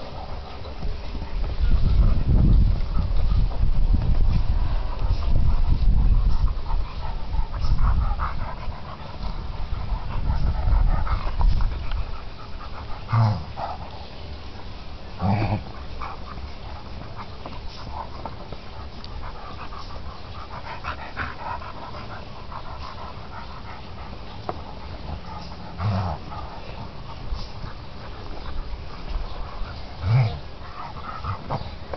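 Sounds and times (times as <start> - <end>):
dog low vocal sounds: 0.0 - 14.2, 15.1 - 31.9
dog panting: 0.0 - 31.9.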